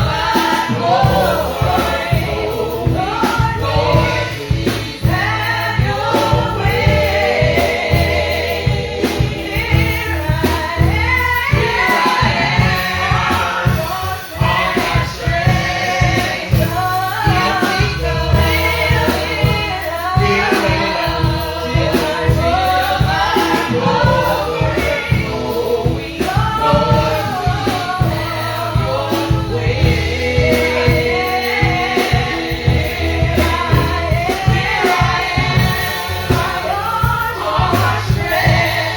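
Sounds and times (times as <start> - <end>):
band with steady bass: 0.0 - 38.9
choir singing gospel song: 0.0 - 38.9
female lead voices singing: 0.0 - 38.9.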